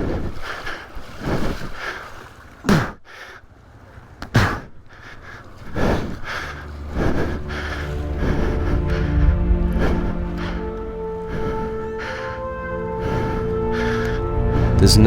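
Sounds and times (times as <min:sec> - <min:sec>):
strained gasping breaths: 0:00.0 - 0:14.8
river water splashing: 0:00.0 - 0:14.9.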